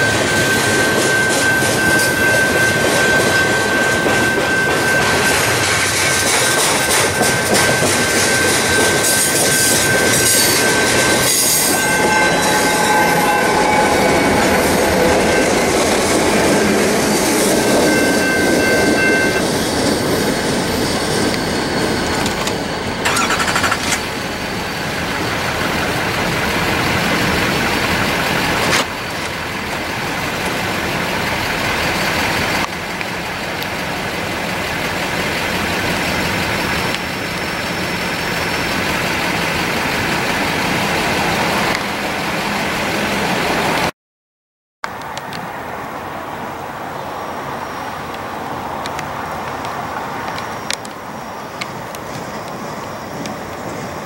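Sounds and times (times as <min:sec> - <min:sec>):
train rumbling and clattering past: 0:00.0 - 0:43.9, 0:44.9 - 0:54.0.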